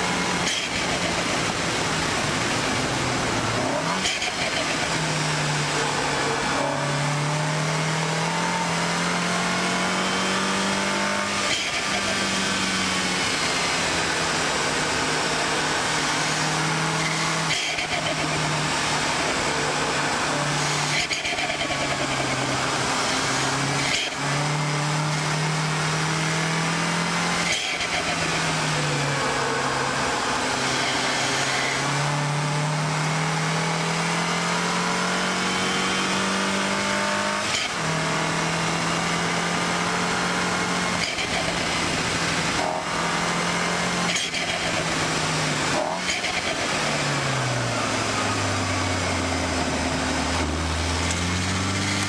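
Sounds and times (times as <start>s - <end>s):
car engine accelerating: 0.0s - 52.0s
road and wind noise: 0.0s - 52.0s.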